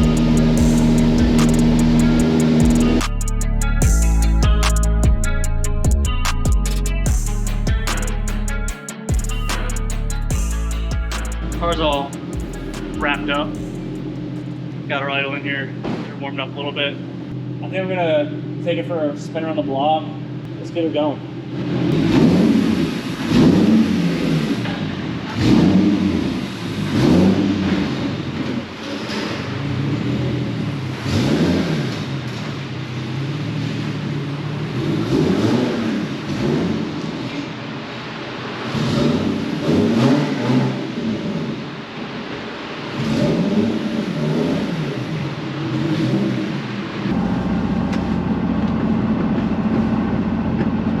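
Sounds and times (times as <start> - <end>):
car engine revving: 0.0 - 19.0, 19.6 - 51.0.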